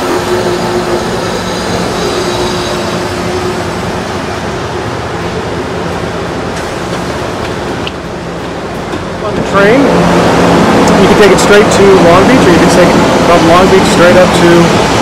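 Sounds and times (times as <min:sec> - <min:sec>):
train motor hum: 0:00.0 - 0:15.0
train rolling on rails: 0:00.0 - 0:15.0.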